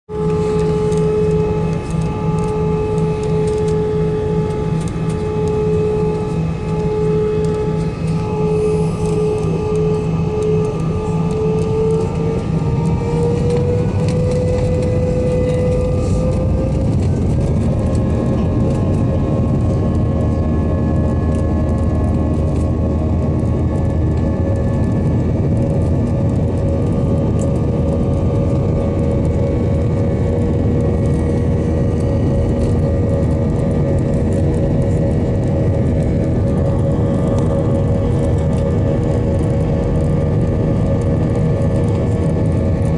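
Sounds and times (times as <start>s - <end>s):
loud constant rumble: 0.0s - 42.9s
jet engines spooling up: 0.1s - 42.9s.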